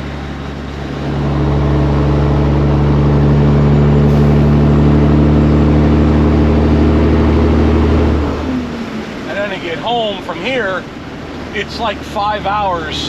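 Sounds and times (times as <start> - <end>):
truck diesel engine from cab: 0.0 - 13.0.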